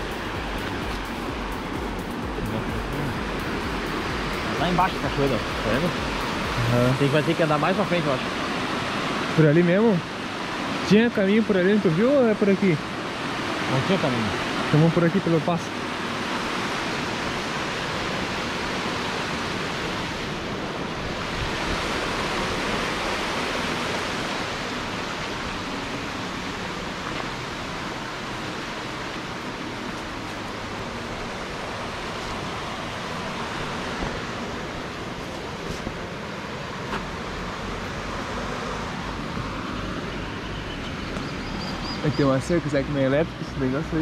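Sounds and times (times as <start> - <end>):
river rapids roaring: 0.0 - 44.0.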